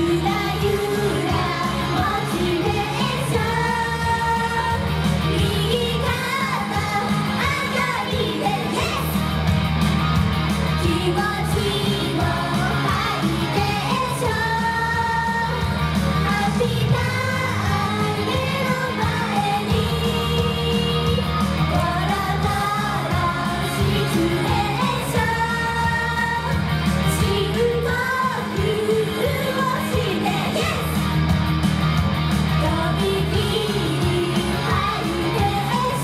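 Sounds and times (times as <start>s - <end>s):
pop song with singing voices: 0.0s - 36.0s.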